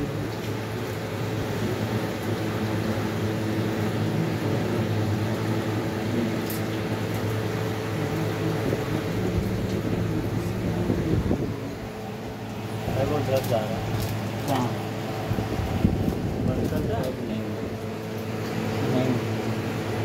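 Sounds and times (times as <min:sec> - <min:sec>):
electric motor humming: 0:00.0 - 0:18.9.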